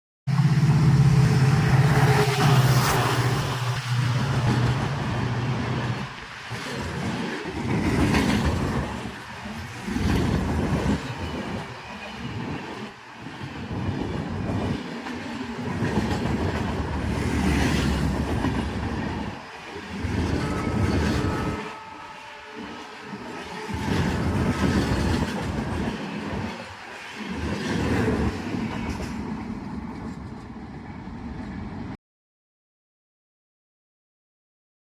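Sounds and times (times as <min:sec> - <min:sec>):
diesel locomotive drone: 0:00.3 - 0:32.0.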